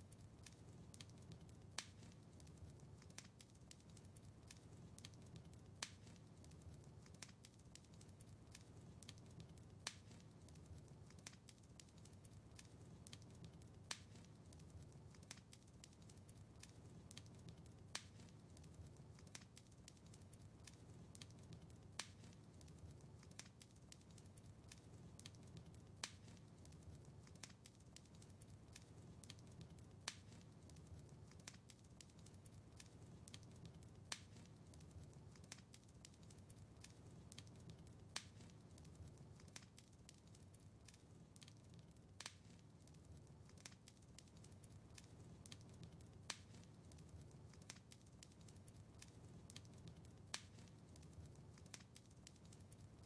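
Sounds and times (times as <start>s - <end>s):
wood fire crackling: 0.0s - 53.0s
sharp fire pops: 0.4s - 40.2s, 40.8s - 52.8s.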